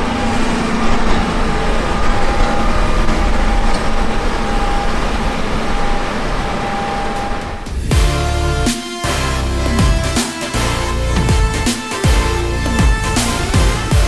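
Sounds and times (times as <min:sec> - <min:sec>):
high machine whine: 0:00.0 - 0:14.0.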